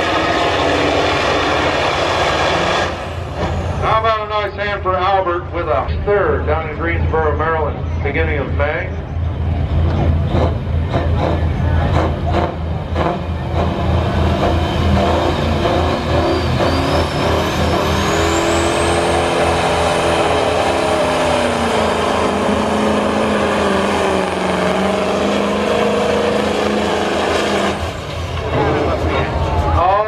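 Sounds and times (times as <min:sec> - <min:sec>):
diesel truck engine under load: 0:00.0 - 0:30.0.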